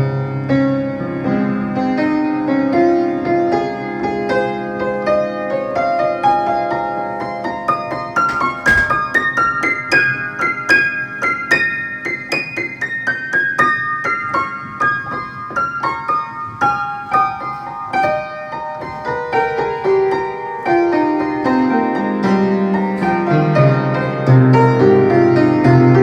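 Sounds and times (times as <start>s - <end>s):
solo piano descending passage: 0.0s - 26.0s.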